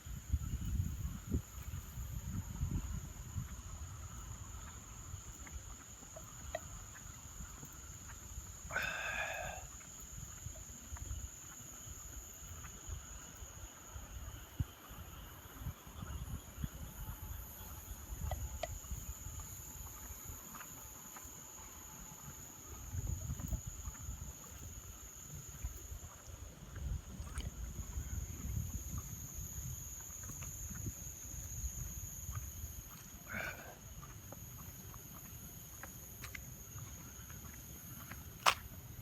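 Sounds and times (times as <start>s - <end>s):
night insects trilling: 0.0s - 39.0s.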